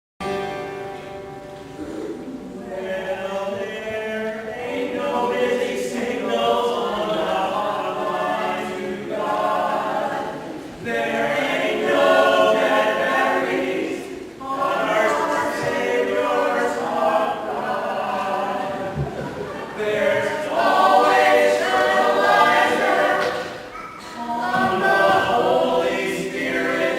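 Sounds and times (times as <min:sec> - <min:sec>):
youth choir singing: 0:01.8 - 0:26.9.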